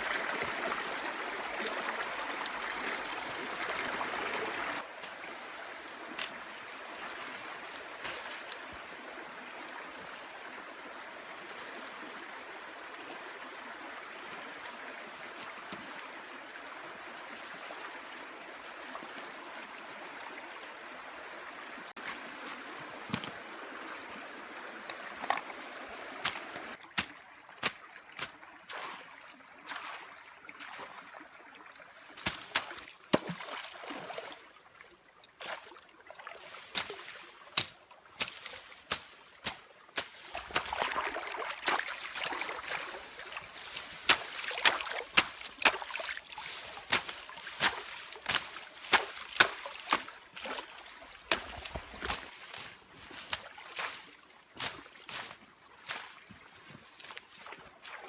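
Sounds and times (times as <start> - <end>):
water splashing and trickling: 0.0 - 58.0.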